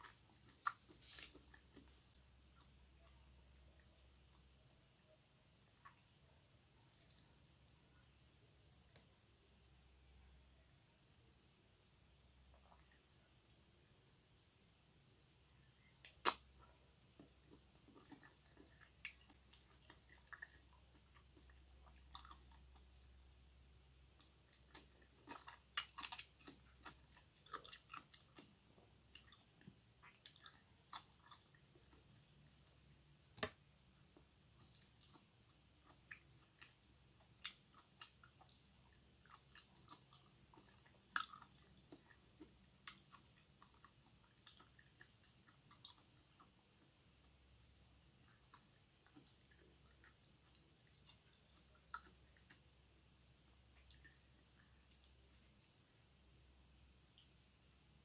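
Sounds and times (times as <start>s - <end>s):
wet chewing and mouth clicks: 0.0s - 7.9s, 15.8s - 55.9s.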